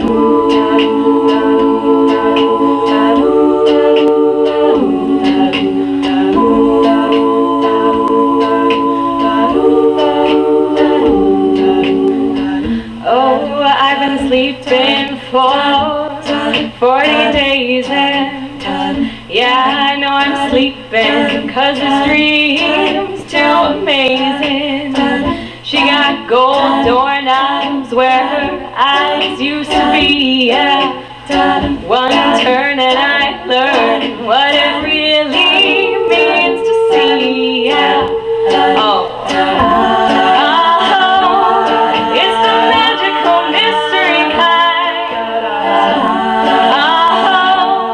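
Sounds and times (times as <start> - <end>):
women singing a cappella: 0.0 - 47.9.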